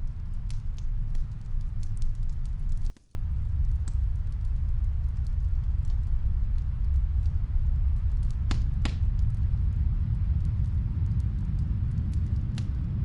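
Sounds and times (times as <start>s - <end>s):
wind rumbling: 0.0s - 13.0s
wood fire crackling and popping: 0.0s - 13.0s.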